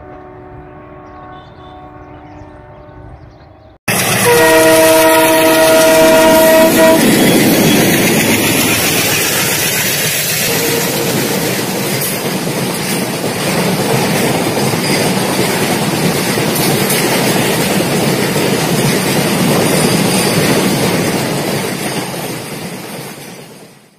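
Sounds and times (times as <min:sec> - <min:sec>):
train rolling on rails: 0:03.9 - 0:23.9.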